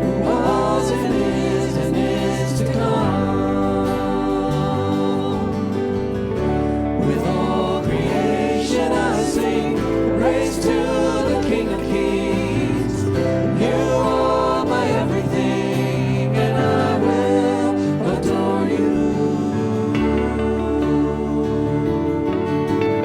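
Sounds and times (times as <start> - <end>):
held instrumental chords: 0.0 - 23.0
voices singing worship song: 0.0 - 23.0.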